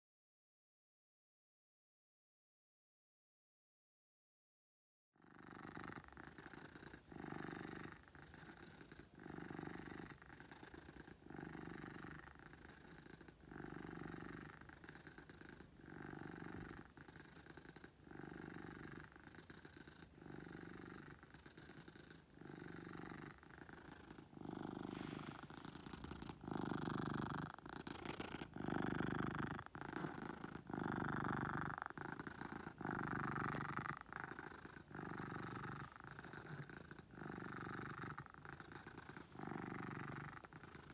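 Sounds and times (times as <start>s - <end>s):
cat purring loudly: 5.2s - 40.9s.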